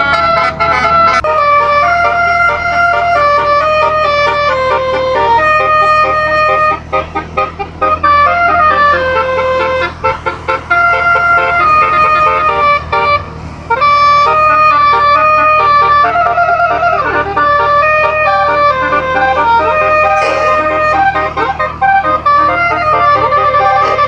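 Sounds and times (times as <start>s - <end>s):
air horn melody: 0.0s - 24.0s.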